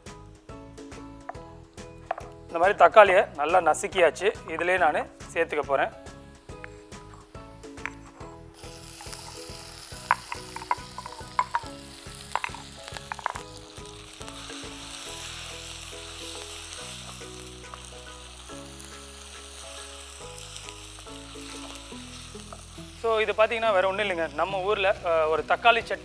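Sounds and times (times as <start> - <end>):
tomatoes sizzling in hot oil: 0.0 - 26.0.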